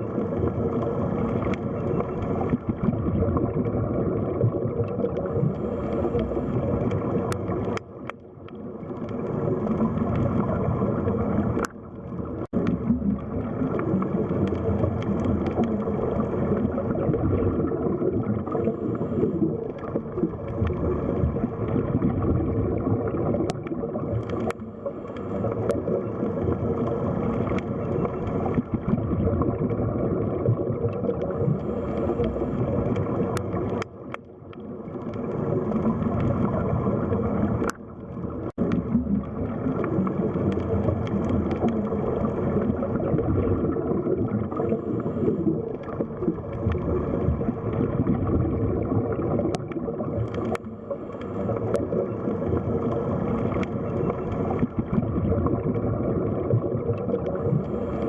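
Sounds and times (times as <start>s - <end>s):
muffled churning water underwater: 0.0s - 58.0s.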